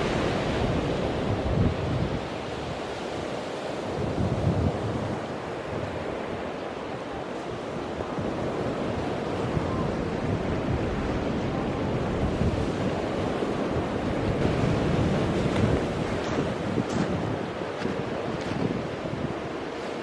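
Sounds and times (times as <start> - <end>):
surf washing over pebbles: 0.0 - 20.0
wind buffeting microphone: 0.0 - 20.0.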